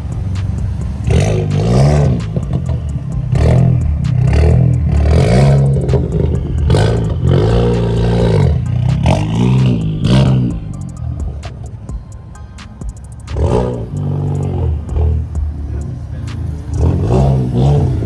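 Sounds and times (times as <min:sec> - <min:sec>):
car engine revving: 0:00.0 - 0:18.0
steady low hum: 0:00.0 - 0:18.0.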